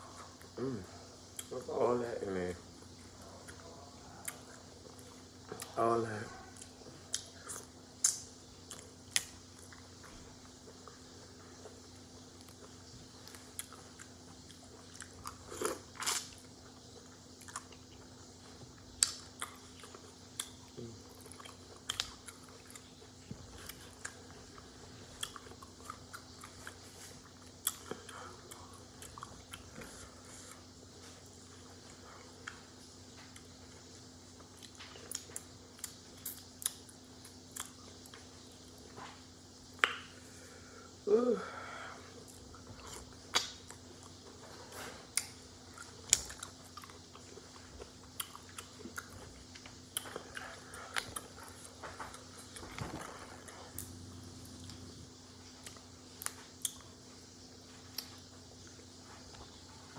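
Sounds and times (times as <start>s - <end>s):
faint steady hum: 0.0s - 59.9s
chewing and biting: 6.5s - 38.3s, 42.2s - 59.6s.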